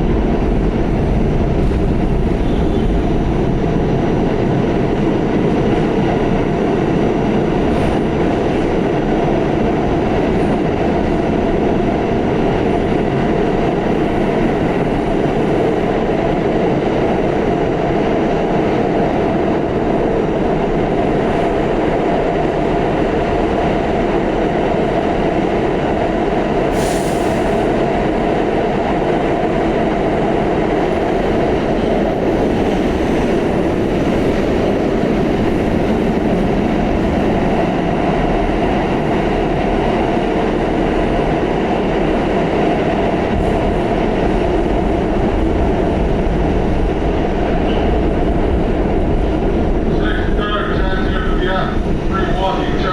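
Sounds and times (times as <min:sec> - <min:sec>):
subway train rumbling in tunnel: 0:00.0 - 0:52.9.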